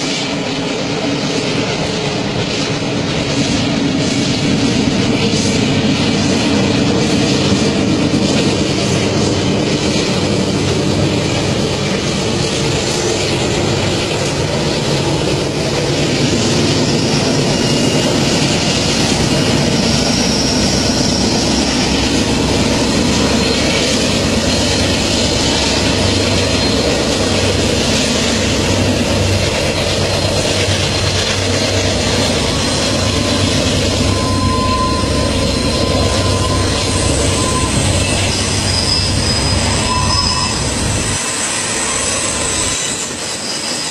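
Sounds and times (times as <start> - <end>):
train wheels on rails: 0.0 - 43.9.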